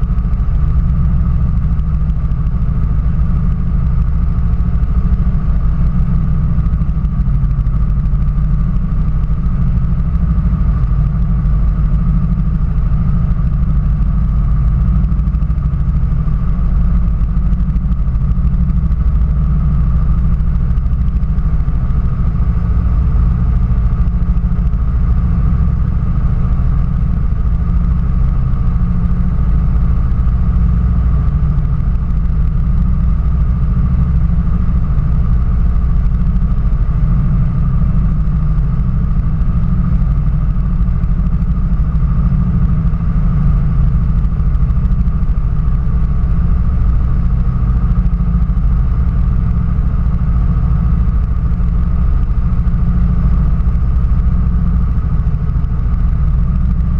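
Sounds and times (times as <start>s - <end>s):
small engine idling: 0.0s - 56.9s.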